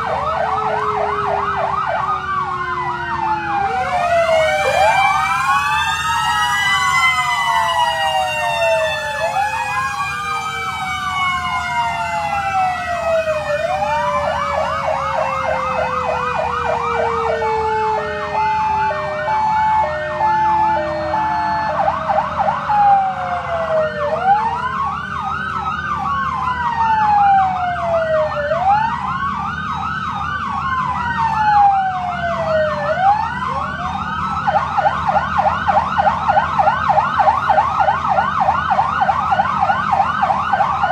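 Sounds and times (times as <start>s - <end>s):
fire truck sirens wailing: 0.0s - 40.9s
low engine rumble: 0.0s - 40.9s.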